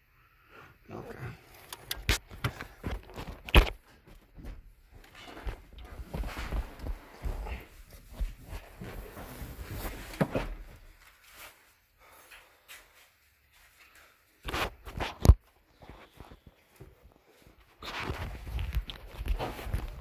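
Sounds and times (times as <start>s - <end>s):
rustling and handling noises: 1.4s - 20.0s.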